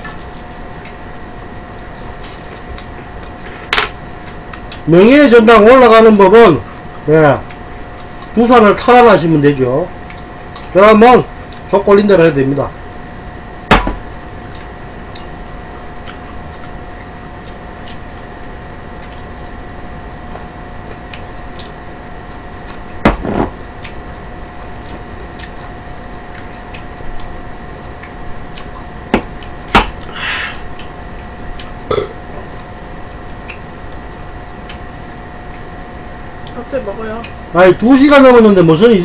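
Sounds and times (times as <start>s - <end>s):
steady electrical hum: 0.0s - 39.0s.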